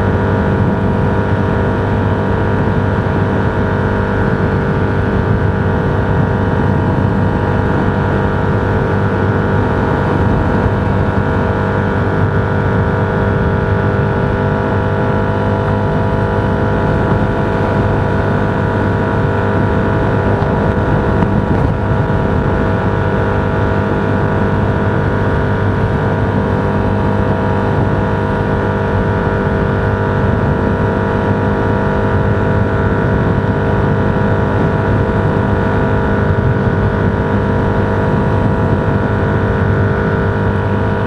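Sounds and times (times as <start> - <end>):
road noise: 0.0 - 41.0
vehicle engine hum: 0.0 - 41.0.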